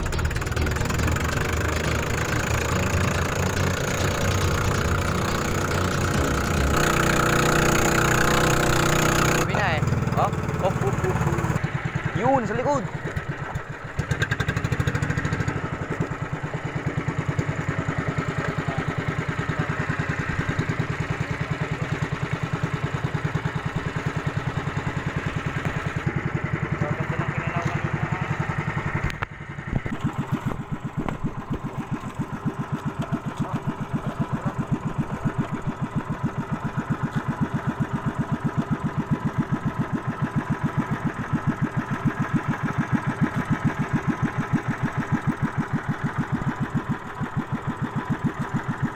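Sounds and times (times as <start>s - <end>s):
small boat engine running: 0.0s - 48.9s.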